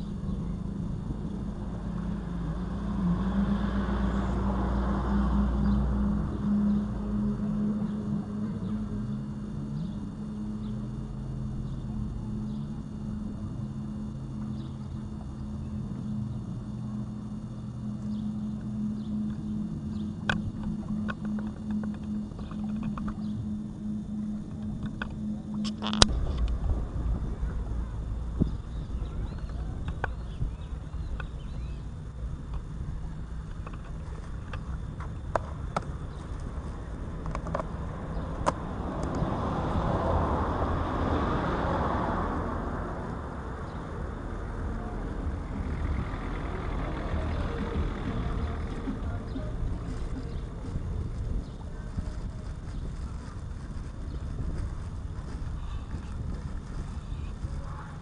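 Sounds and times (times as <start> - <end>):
steady low hum: 0.0 - 58.0
wind rumble on microphone: 0.0 - 58.0.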